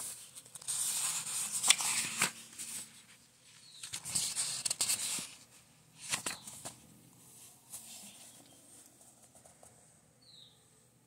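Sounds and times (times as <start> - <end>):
book pages rustling: 0.0 - 9.8.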